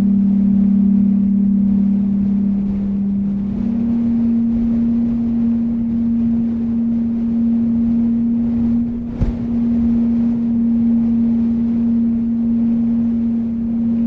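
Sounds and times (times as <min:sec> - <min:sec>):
beating ambient drone: 0:00.0 - 0:14.0
low wind rumble: 0:00.0 - 0:14.0.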